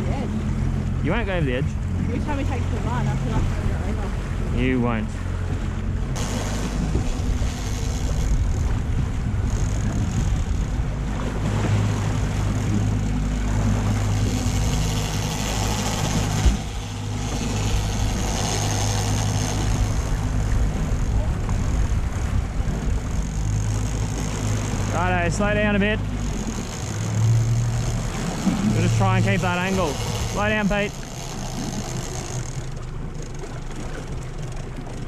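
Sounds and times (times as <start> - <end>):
outboard motor running: 0.0 - 35.0
water rushing and splashing: 0.0 - 35.0.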